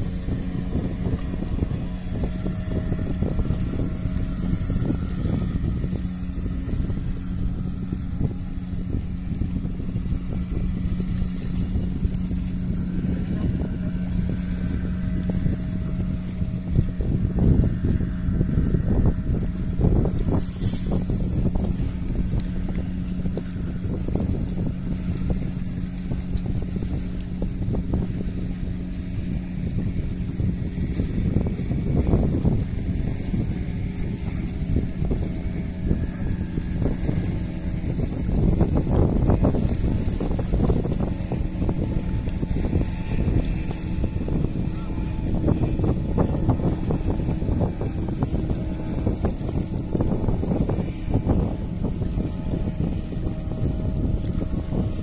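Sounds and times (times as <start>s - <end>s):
low engine hum: 0.0s - 55.0s
low motor drone: 0.0s - 55.0s
wind rumbling on microphone: 0.0s - 55.0s.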